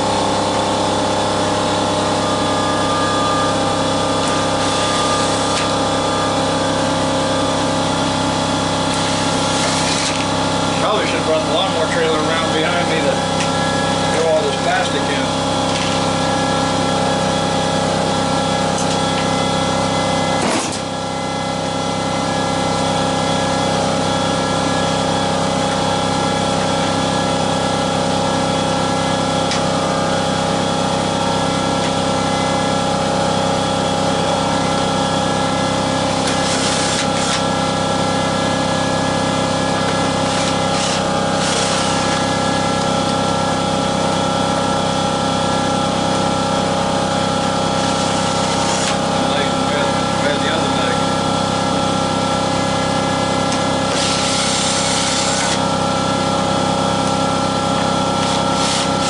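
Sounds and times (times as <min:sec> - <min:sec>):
motor humming: 0:00.0 - 0:59.0.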